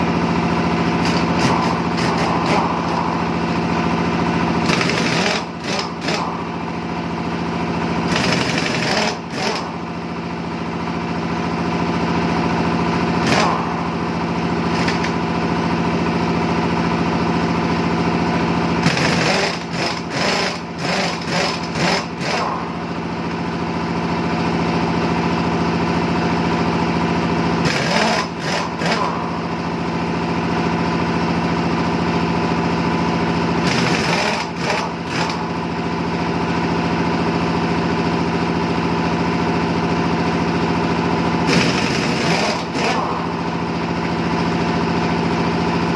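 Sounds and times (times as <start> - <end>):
small engine running: 0.0 - 45.9
pneumatic impact wrench rattling: 0.1 - 24.4, 25.0 - 38.2, 38.8 - 45.9.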